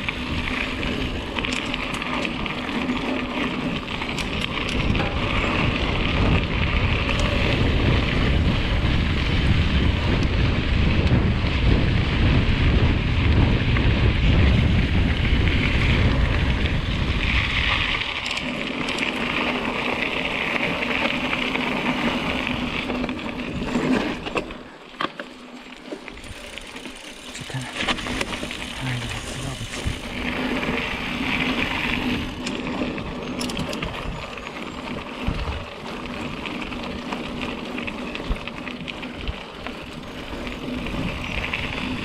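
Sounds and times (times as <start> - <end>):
wind rumbling on microphone: 0.0 - 24.6, 26.1 - 42.0
bike clicks and rattles: 0.0 - 42.0
bike tyre and trail noise: 0.0 - 42.0.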